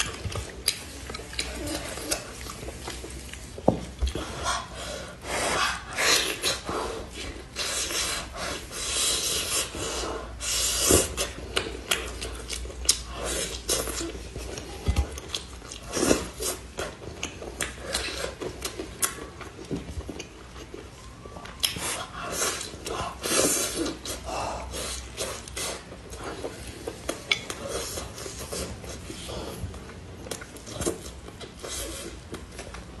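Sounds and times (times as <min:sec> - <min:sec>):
wet biting and chewing: 0:00.0 - 0:04.3, 0:10.4 - 0:33.0.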